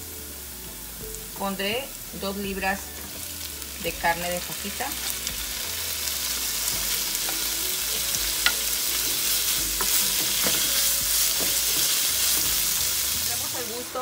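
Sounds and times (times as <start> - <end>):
meat sizzling in a frying pan: 0.0 - 14.0.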